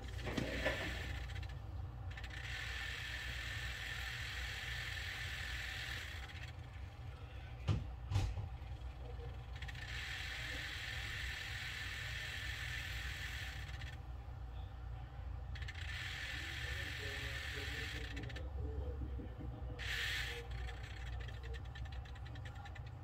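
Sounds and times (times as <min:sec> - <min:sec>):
gauge stepper motors whirring: 0:00.0 - 0:23.0
steady low hum: 0:00.0 - 0:23.0.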